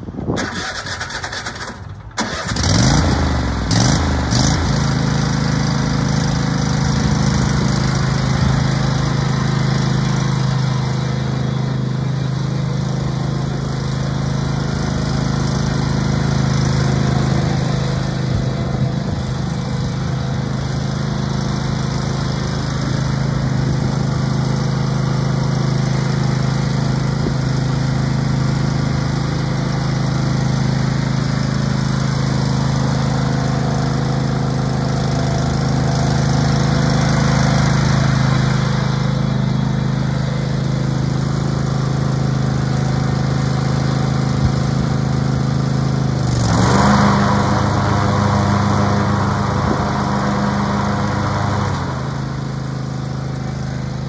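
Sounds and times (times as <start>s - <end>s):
riding lawn mower engine: 0.0s - 54.0s.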